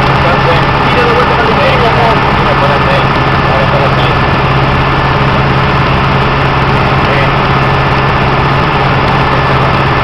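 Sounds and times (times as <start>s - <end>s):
deep even hum: 0.0s - 10.0s
light aircraft engine droning: 0.0s - 10.0s.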